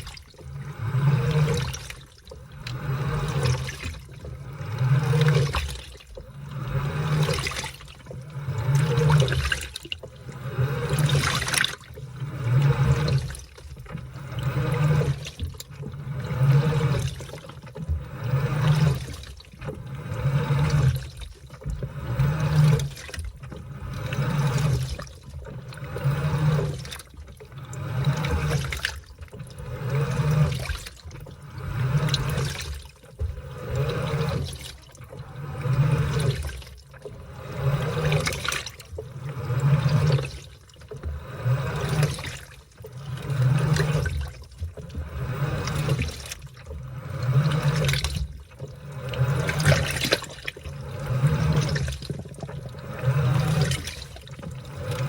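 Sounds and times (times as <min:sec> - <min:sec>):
washing machine motor humming: 0:00.0 - 0:55.0
washing machine sloshing water: 0:00.0 - 0:55.0.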